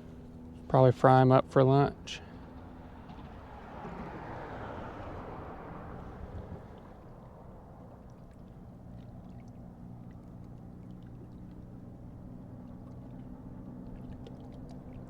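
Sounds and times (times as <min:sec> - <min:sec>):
distant motorboat engine hum: 0:00.0 - 0:15.0
boat wash rushing: 0:01.1 - 0:15.0.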